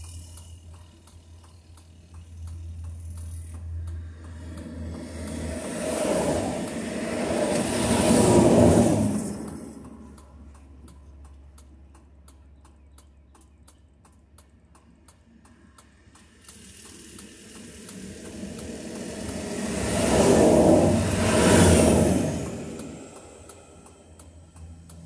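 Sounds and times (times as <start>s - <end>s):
highway traffic passing: 0.0s - 25.0s
light ticking: 0.0s - 25.0s.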